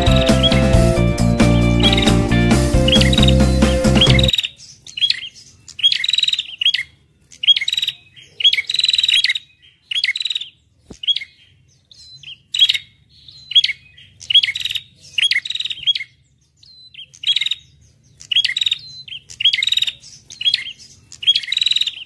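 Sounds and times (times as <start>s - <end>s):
small songbirds trilling: 0.0s - 22.0s.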